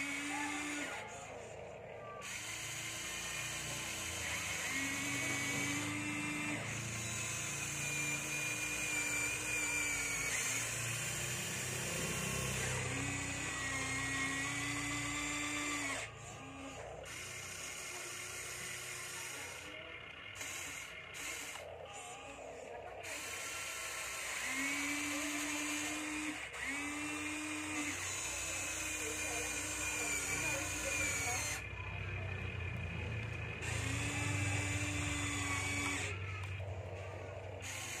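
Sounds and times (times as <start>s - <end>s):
small electric motors whining: 0.0s - 38.0s.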